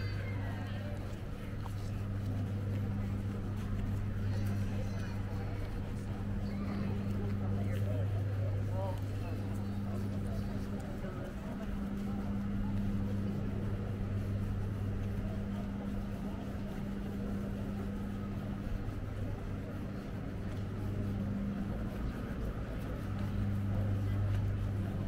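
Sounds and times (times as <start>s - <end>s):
city background noise: 0.0s - 25.0s
steady low hum: 0.0s - 25.0s.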